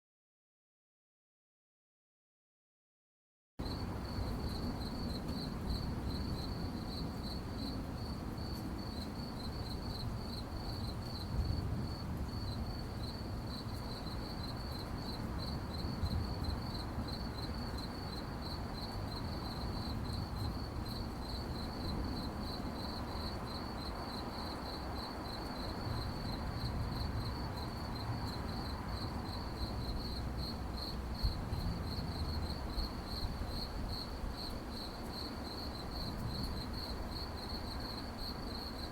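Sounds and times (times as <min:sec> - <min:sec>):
crickets chirping: 0:03.6 - 0:38.9.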